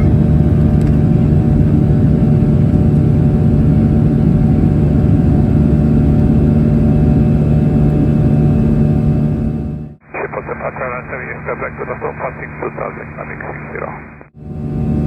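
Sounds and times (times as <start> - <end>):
jet engine drone in cabin: 0.0 - 15.0.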